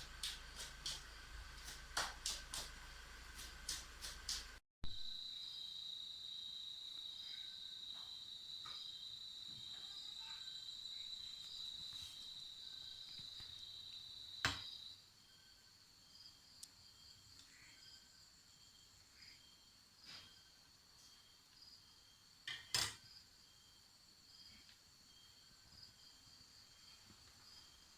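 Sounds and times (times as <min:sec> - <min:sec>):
insects chirping trill: 0:00.0 - 0:27.9.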